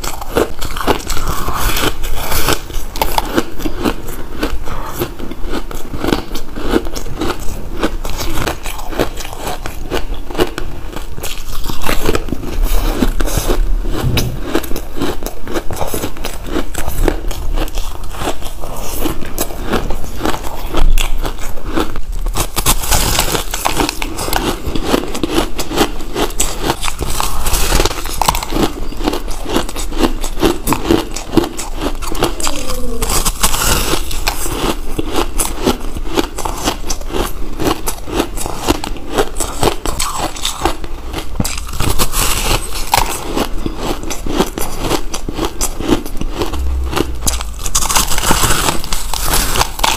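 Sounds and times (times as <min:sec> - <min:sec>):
ice being chewed and crunched: 0:00.0 - 0:49.9.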